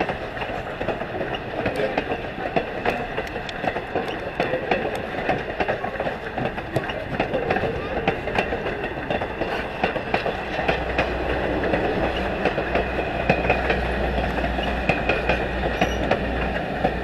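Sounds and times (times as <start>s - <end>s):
train coach rumbling: 0.0s - 17.0s
wheels clacking over rail joints: 0.0s - 17.0s.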